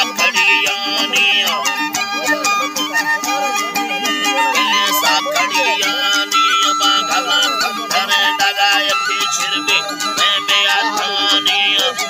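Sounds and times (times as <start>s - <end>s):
man singing: 0.0s - 12.0s
plucked lute strumming: 0.0s - 12.0s
wooden flute melody: 0.0s - 12.0s.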